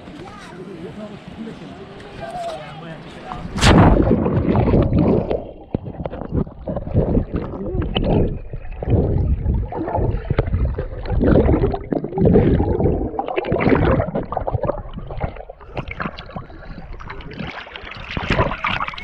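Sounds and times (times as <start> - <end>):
water sloshing and splashing: 3.2 - 19.0.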